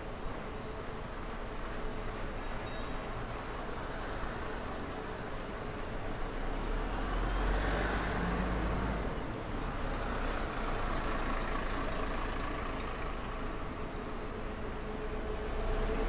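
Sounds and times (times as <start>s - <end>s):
bus engine rumble: 0.0s - 16.0s
street traffic noise: 0.0s - 16.0s.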